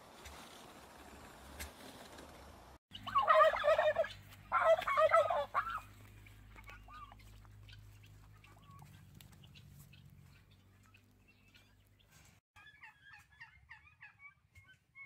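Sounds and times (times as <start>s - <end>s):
farm bird warbling calls: 2.9s - 15.0s.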